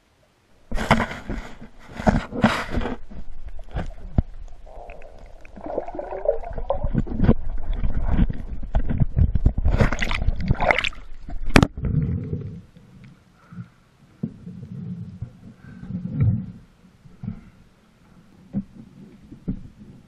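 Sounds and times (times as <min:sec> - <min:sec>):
water gurgling and sloshing: 0:00.5 - 0:20.0.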